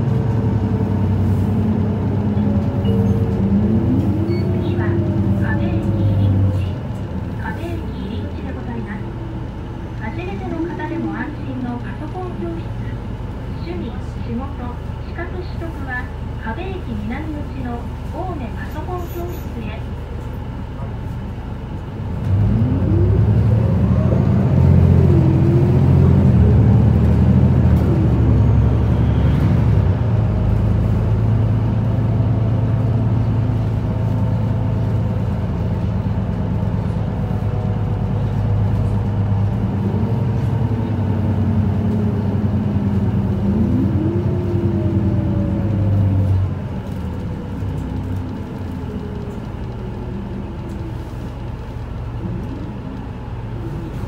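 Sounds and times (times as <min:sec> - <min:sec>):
engine whine: 0:00.0 - 0:15.4, 0:20.0 - 0:54.0
bus diesel engine: 0:00.0 - 0:54.0.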